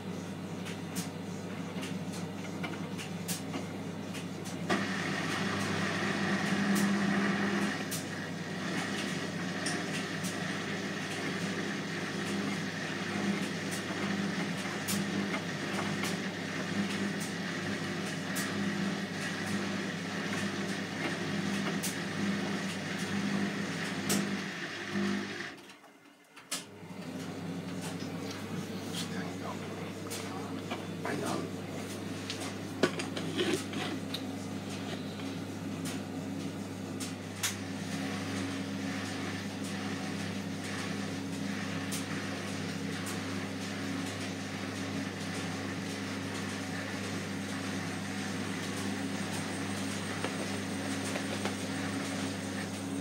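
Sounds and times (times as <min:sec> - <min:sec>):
washing machine motor hum: 0:00.0 - 0:53.0.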